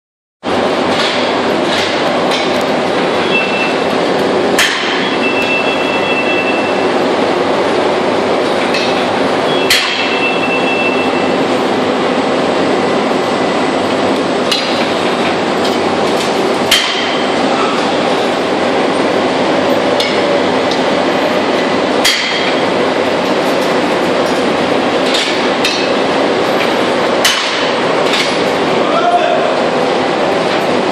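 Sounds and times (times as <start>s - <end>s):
loud machinery din: 0.4s - 30.9s.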